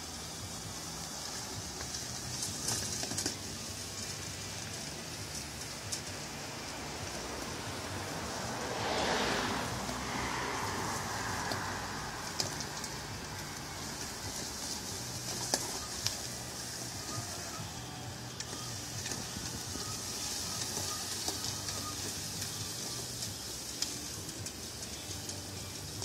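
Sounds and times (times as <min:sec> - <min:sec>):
lawnmower motors humming: 0:00.0 - 0:26.0
steady high-pitched hiss: 0:00.0 - 0:26.0.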